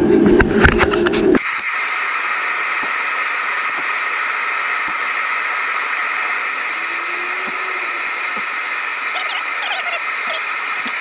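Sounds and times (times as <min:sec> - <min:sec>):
machine rushing noise: 0:01.2 - 0:11.0.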